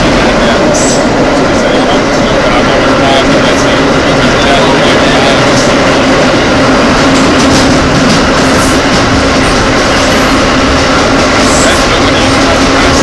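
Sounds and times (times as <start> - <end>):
rail clatter: 0.0 - 13.0
subway train wheels rumbling: 0.0 - 13.0.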